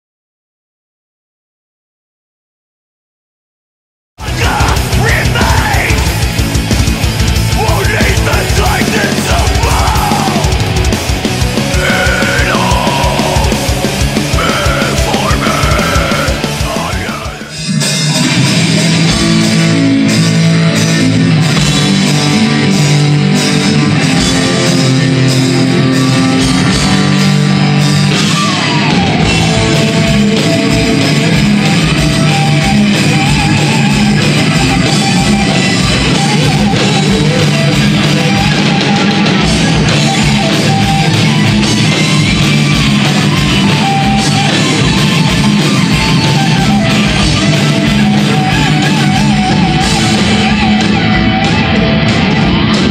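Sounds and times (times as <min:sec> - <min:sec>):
bass guitar: 0:04.2 - 0:52.9
distorted electric guitars: 0:04.2 - 0:52.9
fast drum kit: 0:04.2 - 0:52.9.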